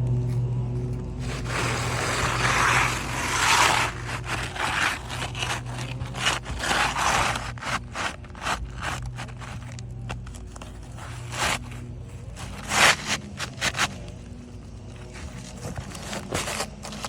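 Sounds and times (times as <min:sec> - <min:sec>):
metal tool scraping shingles: 0:00.8 - 0:17.0.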